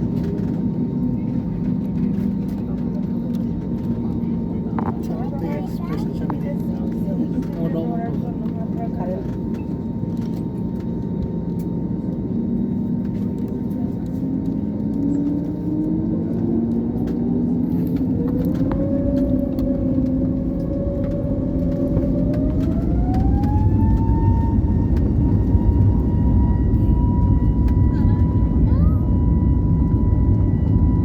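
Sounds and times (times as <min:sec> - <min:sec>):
jet engine whine climbing: 0:00.0 - 0:31.0
low engine rumble: 0:00.0 - 0:31.0.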